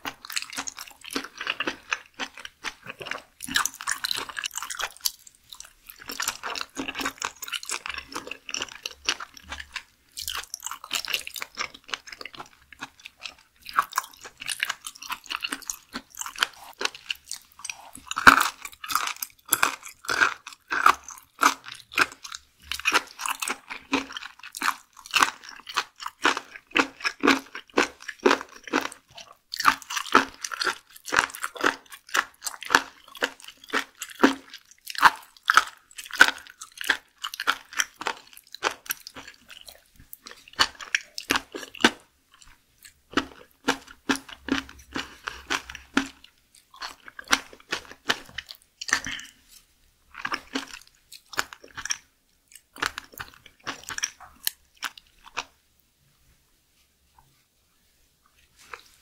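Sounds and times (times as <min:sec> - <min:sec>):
wet chewing crunches: 0:00.0 - 0:55.6, 0:58.5 - 0:59.0.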